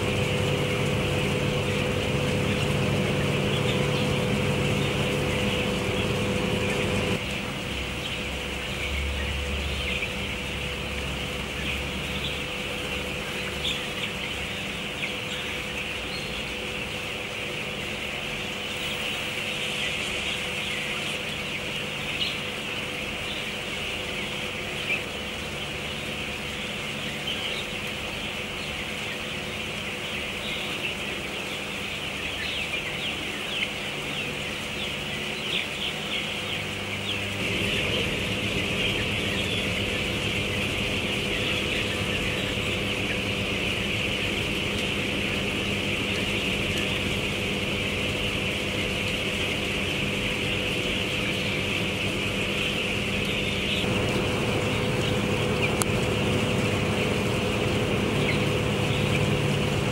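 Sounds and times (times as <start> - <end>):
chickens peeping: 0.0 - 59.9
steady machine hum: 0.0 - 59.9.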